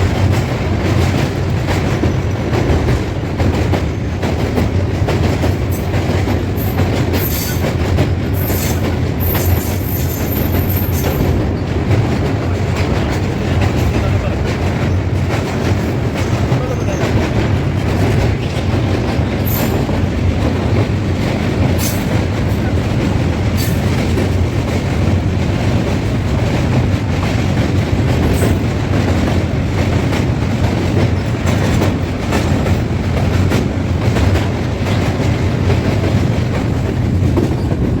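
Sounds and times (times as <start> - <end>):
train rumbling: 0.0 - 38.0
wheels clacking over rails: 0.0 - 38.0.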